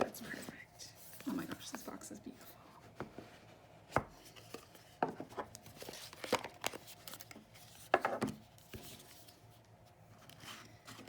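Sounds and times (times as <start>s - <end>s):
rustling of card and paper: 0.0s - 11.0s.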